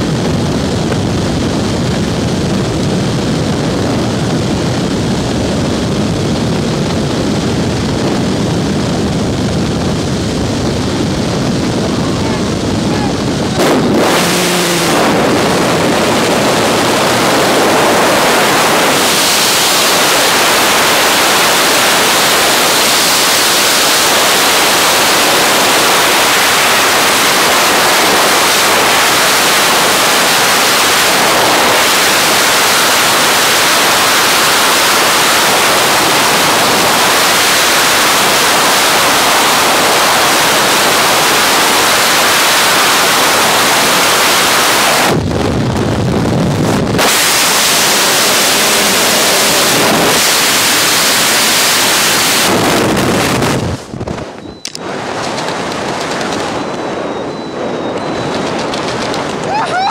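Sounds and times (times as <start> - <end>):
wind blasting across microphone: 0.0 - 59.9.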